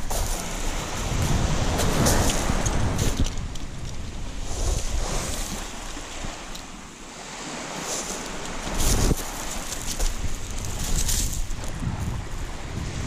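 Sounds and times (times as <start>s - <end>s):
wind buffeting microphone: 0.0s - 6.5s, 7.3s - 13.0s
waves washing on shore: 0.0s - 13.0s.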